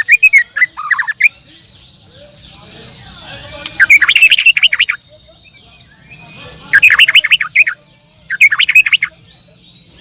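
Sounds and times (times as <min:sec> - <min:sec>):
canaries singing: 0:00.0 - 0:10.0.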